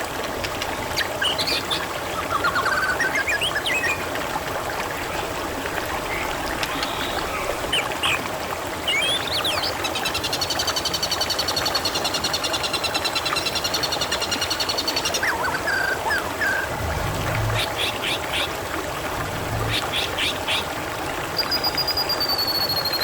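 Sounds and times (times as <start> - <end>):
water trickling and babbling: 0.0 - 23.0.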